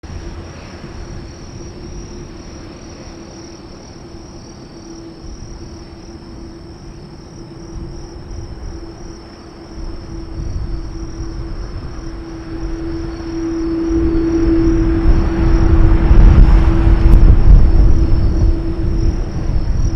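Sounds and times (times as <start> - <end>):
high insect buzz: 0.1 - 19.9.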